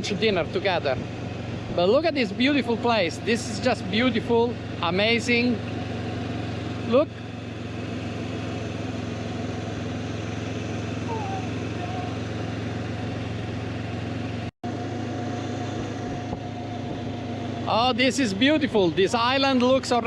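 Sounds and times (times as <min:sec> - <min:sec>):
motorcycle engine cruising hum: 0:00.0 - 0:20.0.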